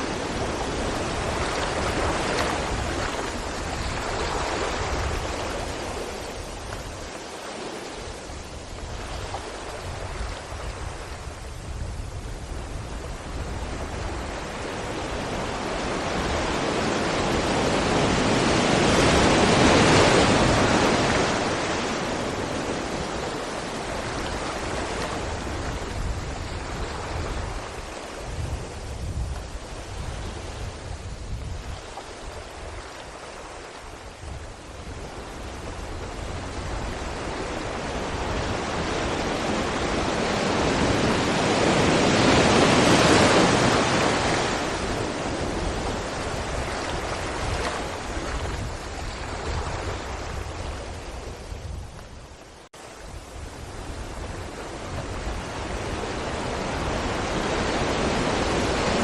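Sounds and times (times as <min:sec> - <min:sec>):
sea waves breaking against rocks: 0:00.0 - 0:59.0.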